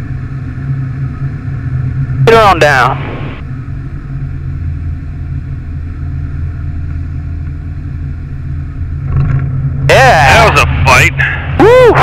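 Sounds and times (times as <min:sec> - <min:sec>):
aeroplane engine and propeller drone: 0:00.0 - 0:12.0.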